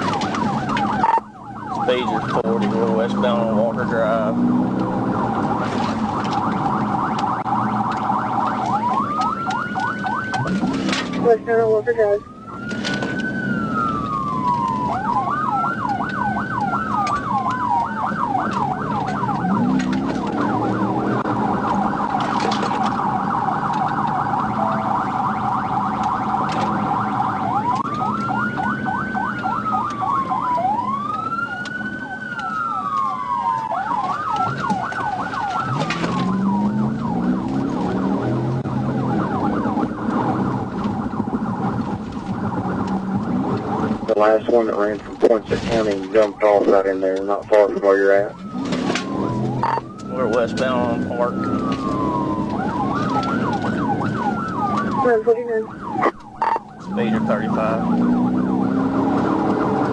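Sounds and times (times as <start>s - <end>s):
car engine revving: 0.0s - 59.9s
police siren wailing and yelping: 0.0s - 59.9s.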